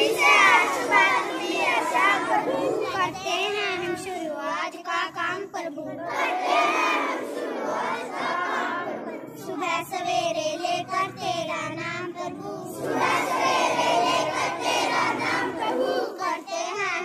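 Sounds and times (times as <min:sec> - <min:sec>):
children singing in unison: 0:00.0 - 0:17.0.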